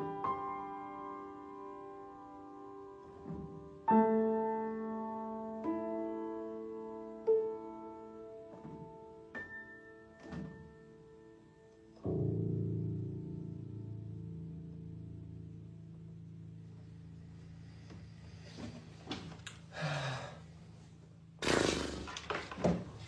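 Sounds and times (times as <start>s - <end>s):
slow piano notes and chords: 0.0s - 21.4s.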